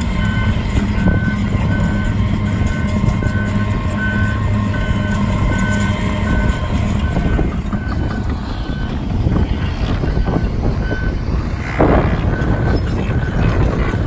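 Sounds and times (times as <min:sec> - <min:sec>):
back-up alarm beeping: 0:00.0 - 0:11.3, 0:12.0 - 0:13.5
diesel machinery running: 0:00.0 - 0:14.0.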